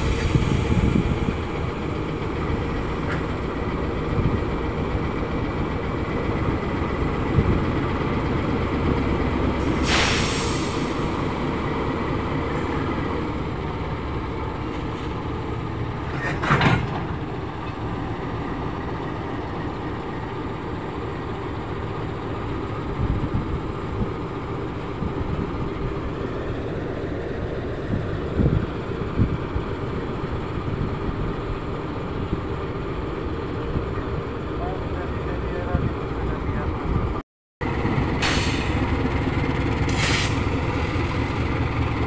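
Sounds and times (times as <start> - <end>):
locomotive engine running: 0.0 - 42.0.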